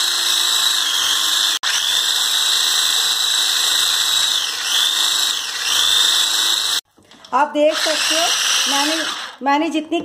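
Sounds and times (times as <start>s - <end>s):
hand blender motor whine: 0.0s - 6.8s, 7.7s - 9.4s.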